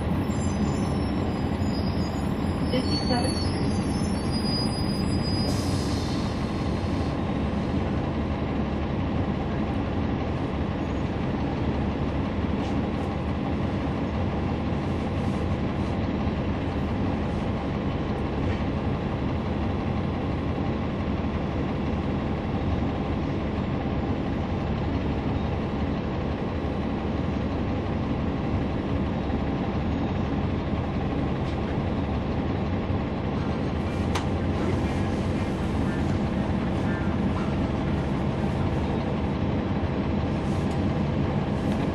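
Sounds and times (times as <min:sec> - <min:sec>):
bus diesel engine running: 0:00.0 - 0:41.9
road noise: 0:00.0 - 0:41.9.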